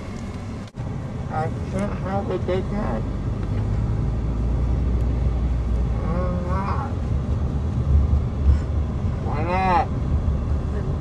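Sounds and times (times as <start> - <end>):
engine and road noise rumble: 0.0 - 11.0.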